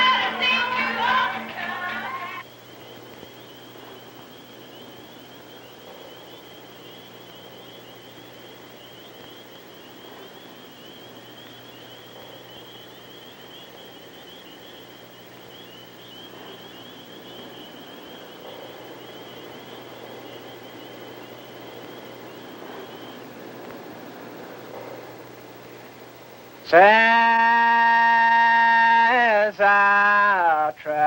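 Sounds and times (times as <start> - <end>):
insects trilling: 0.0 - 31.0
low steady hum: 0.0 - 31.0
soundtrack hiss: 0.0 - 31.0.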